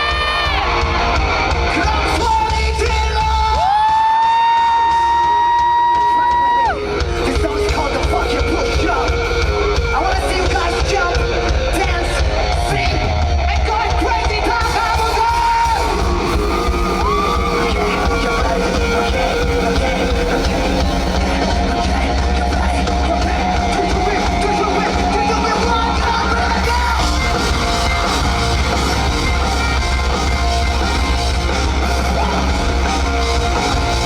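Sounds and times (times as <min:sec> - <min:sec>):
lead vocalist singing: 0:00.0 - 0:01.1, 0:01.7 - 0:29.0
live rock band playing: 0:00.0 - 0:34.0.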